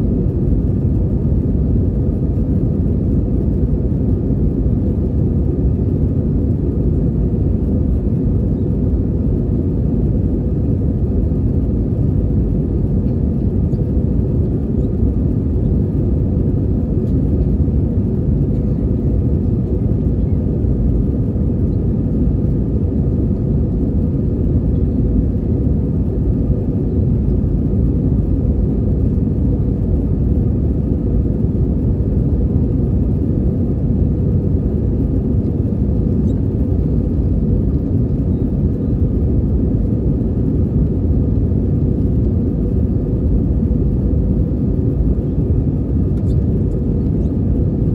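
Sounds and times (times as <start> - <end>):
faint steady hum: 0.0 - 47.9
low rumble of aircraft engines: 0.0 - 47.9.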